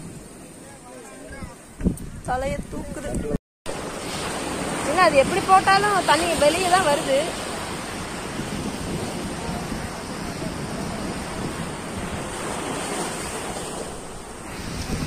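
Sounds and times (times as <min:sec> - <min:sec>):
surf washing up beach: 0:00.0 - 0:01.8, 0:02.4 - 0:15.0
wind buffeting microphone: 0:00.0 - 0:15.0.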